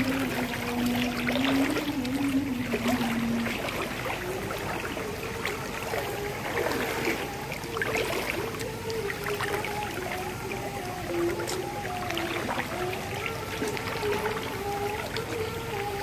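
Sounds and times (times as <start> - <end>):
low held tone: 0.0 - 16.0.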